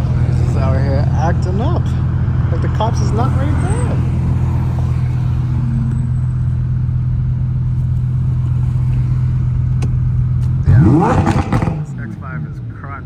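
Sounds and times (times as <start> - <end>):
car engine running: 0.0 - 12.9.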